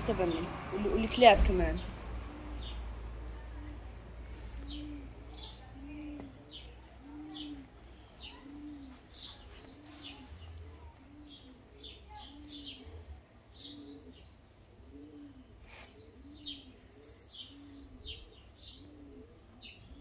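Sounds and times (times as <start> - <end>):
small birds chirping: 0.0 - 20.0
dove cooing: 2.1 - 20.0.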